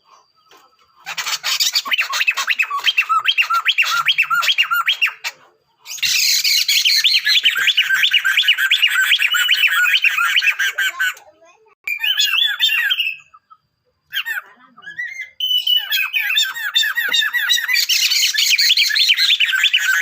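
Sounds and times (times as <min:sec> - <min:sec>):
laughingthrushes calling: 0:00.0 - 0:11.2, 0:11.9 - 0:20.0.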